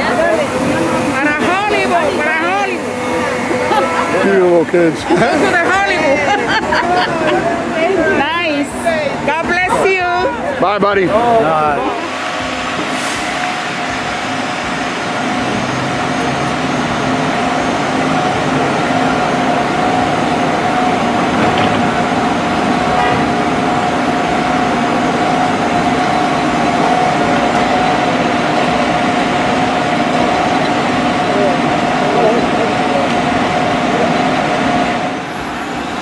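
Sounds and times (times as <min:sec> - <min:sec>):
constant high whine: 0:00.0 - 0:36.0
fire truck engine drone: 0:00.0 - 0:36.0.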